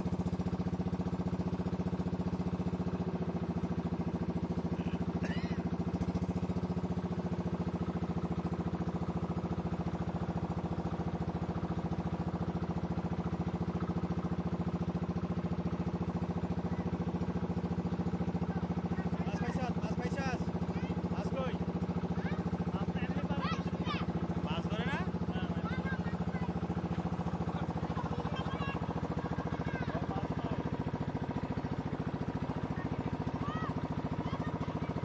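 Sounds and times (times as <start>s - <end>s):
boat engine chugging: 0.0s - 35.0s.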